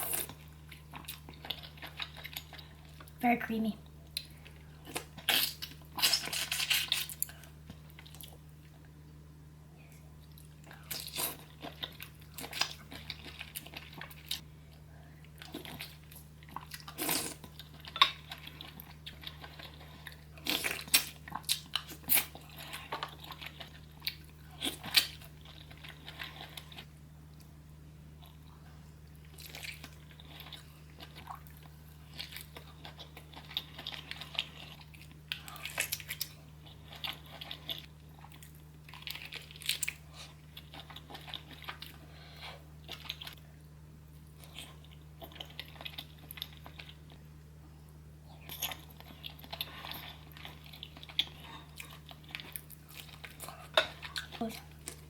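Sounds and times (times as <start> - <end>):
chewing and crunching: 0.0 - 3.2, 3.8 - 8.9, 9.8 - 47.2, 47.8 - 55.0
low electrical hum: 0.0 - 55.0.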